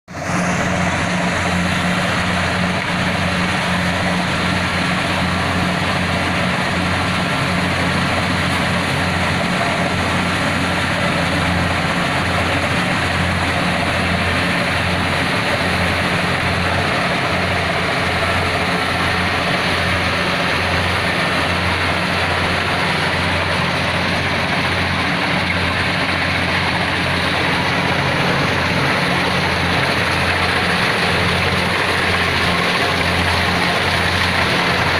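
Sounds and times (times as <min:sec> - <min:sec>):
combine harvester engine running: 0:00.1 - 0:34.9.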